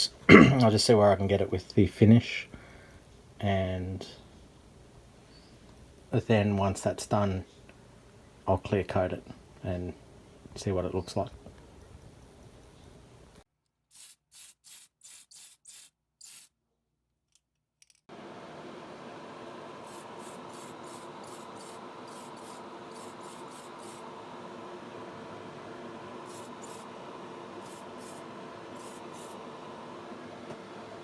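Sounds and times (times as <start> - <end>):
steady hum and hiss: 0.0 - 13.4, 18.1 - 31.0.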